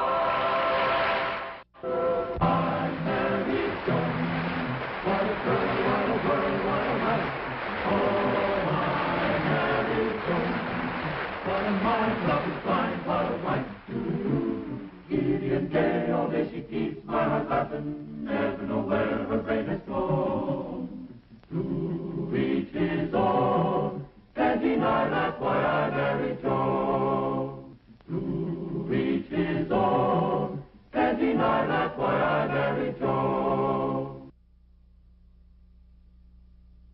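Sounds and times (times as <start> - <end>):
choir singing a theme song: 0.0 - 34.3
faint low hum: 1.8 - 36.9.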